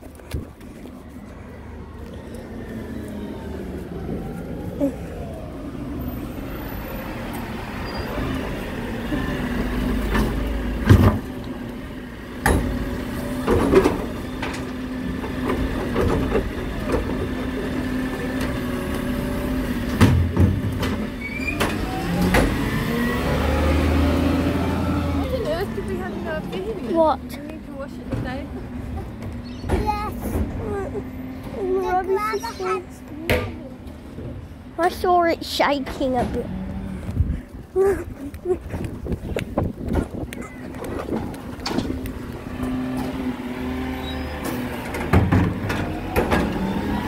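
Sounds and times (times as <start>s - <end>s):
garbage truck engine running: 0.0s - 33.2s, 39.2s - 47.0s.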